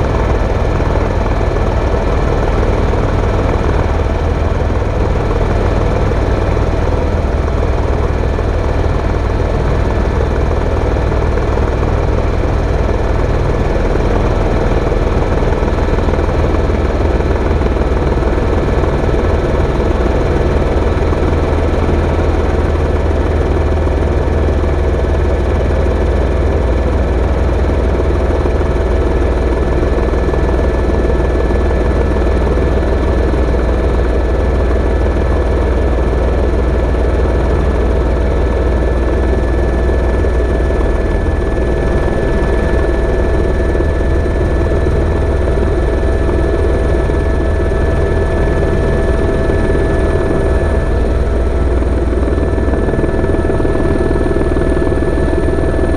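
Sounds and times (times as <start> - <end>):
helicopter rotor and engine drone: 0.0 - 55.9
constant whining tones: 0.4 - 55.9.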